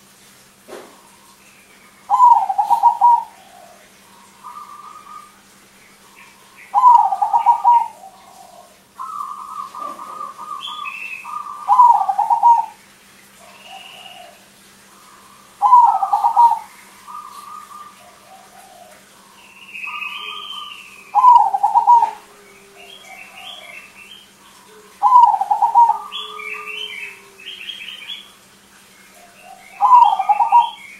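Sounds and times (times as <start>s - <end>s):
small birds chirping: 1.0s - 30.9s
dove cooing staccato phrases: 2.1s - 28.2s, 29.2s - 30.9s.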